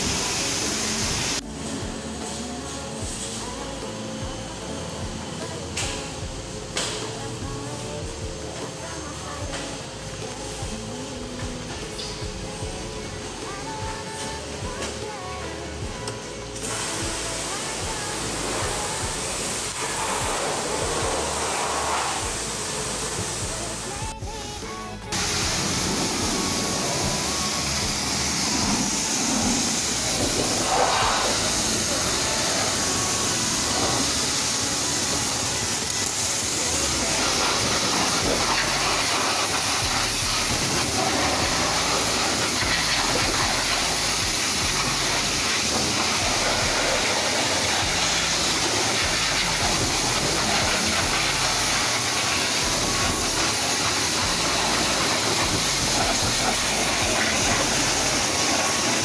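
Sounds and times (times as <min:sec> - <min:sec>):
pressure washer spraying: 0:00.0 - 0:59.0.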